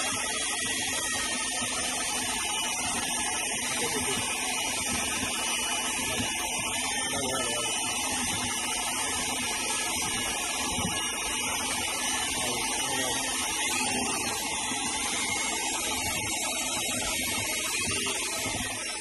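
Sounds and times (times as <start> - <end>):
electric drill mixing mortar: 0.0 - 19.0.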